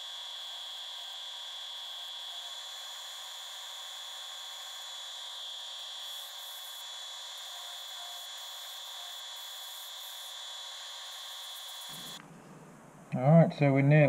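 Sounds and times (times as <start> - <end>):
wood sanding on spinning disc: 0.0 - 12.2.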